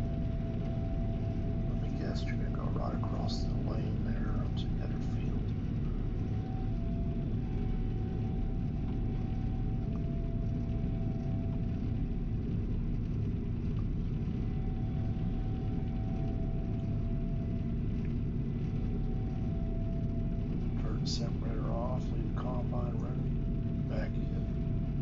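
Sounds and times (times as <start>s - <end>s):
combine harvester engine drone: 0.0s - 25.0s.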